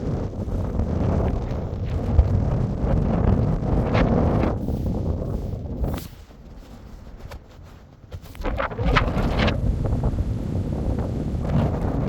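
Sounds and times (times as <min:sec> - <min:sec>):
low uneven rumble: 0:00.0 - 0:12.0
wind buffeting microphone: 0:00.0 - 0:12.0.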